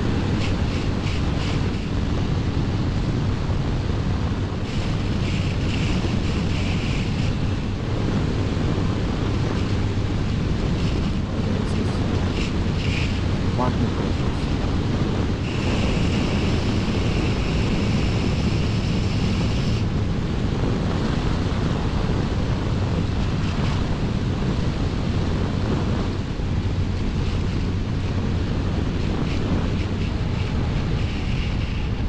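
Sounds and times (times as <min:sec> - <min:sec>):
motorcycle engine humming: 0:00.0 - 0:32.0
wind buffeting the microphone: 0:00.0 - 0:32.0.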